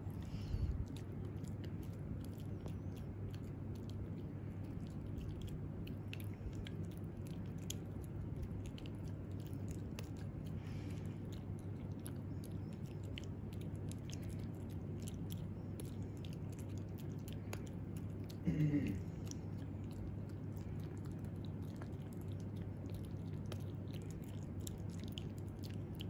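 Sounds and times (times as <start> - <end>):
low hum: 0.0 - 26.0
puppy chewing with crunches: 0.0 - 26.0.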